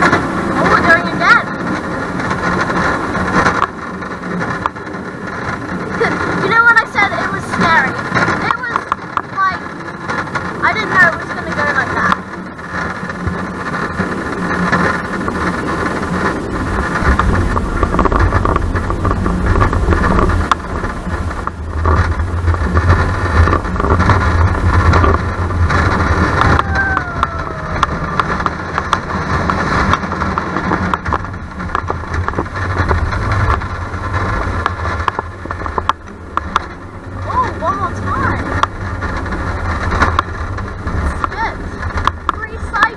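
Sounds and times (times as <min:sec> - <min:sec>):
roller coaster wheels rumbling: 0:00.0 - 0:42.9
wind on microphone: 0:00.0 - 0:42.9.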